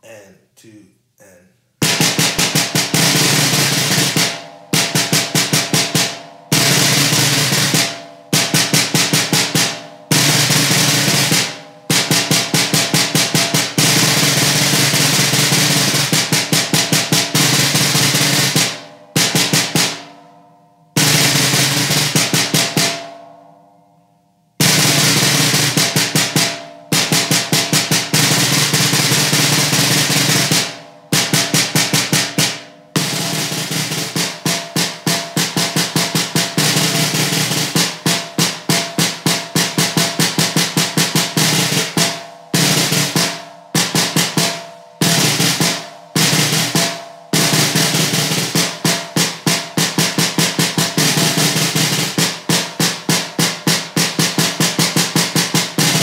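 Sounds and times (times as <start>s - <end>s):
snare drum strokes and rolls: 1.8s - 20.1s, 21.0s - 23.0s, 24.6s - 56.0s.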